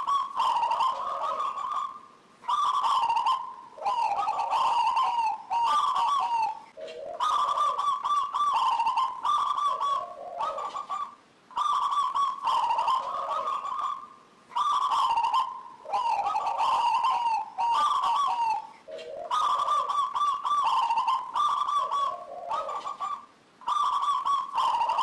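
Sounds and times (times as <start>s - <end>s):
dove cooing: 0.0s - 25.0s.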